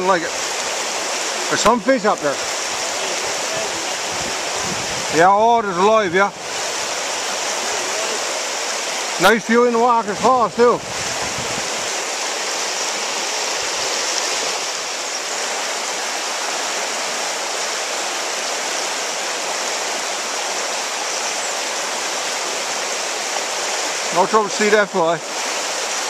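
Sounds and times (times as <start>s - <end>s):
river rapids rushing over rocks: 0.0s - 26.0s.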